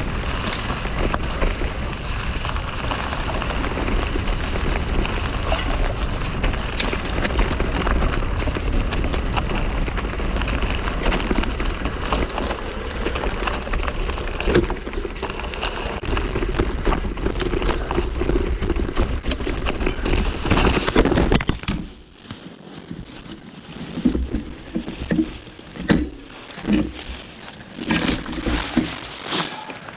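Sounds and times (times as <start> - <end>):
bike tyres rolling over leaves and rocks: 0.0 - 29.9.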